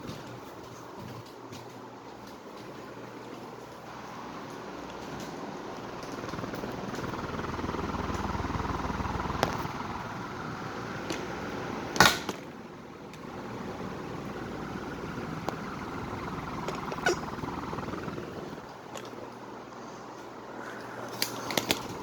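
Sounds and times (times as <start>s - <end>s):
ceiling fan rushing and humming: 0.0s - 22.0s.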